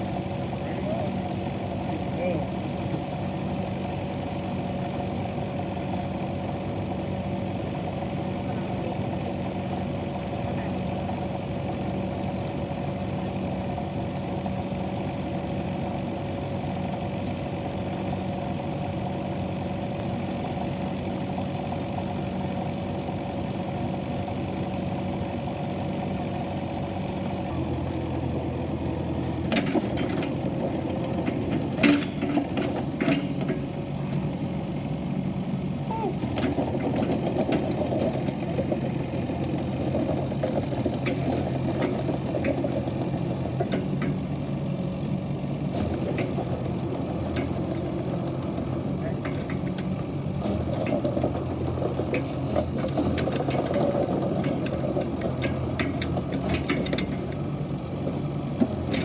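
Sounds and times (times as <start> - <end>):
excavator diesel engine idling: 0.0 - 59.0.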